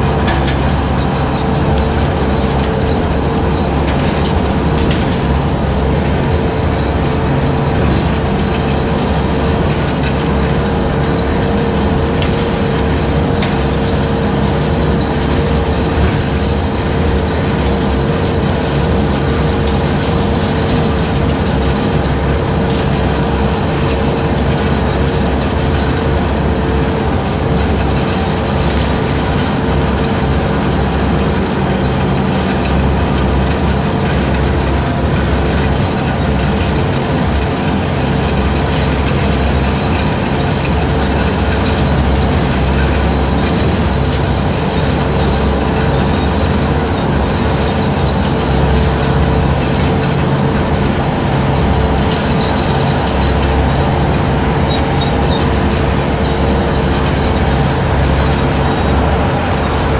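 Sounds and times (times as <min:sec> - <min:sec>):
skid steer engine running: 0:00.0 - 0:59.9
brush cutter high whine: 0:05.7 - 0:59.9.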